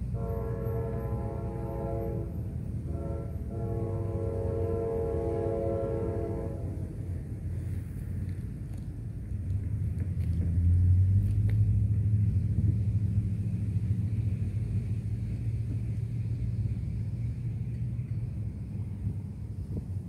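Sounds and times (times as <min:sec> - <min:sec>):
diesel locomotives rumbling: 0:00.0 - 0:20.0.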